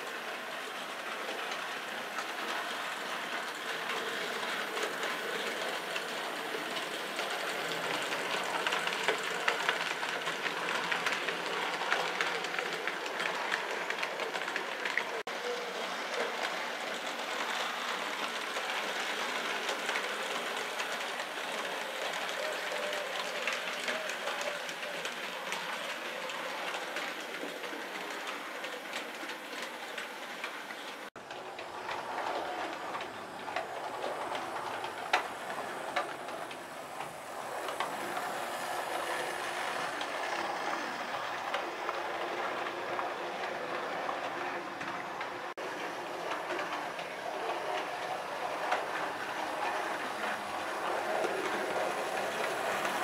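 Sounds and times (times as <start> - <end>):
model train running on track: 0.0 - 53.0.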